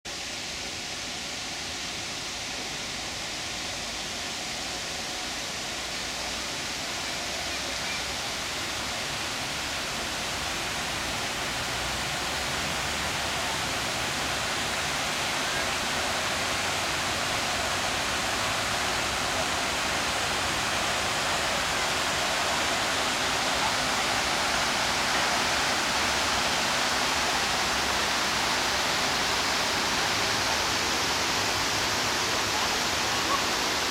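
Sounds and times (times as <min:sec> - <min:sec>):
fountain water falling: 0:00.1 - 0:33.9.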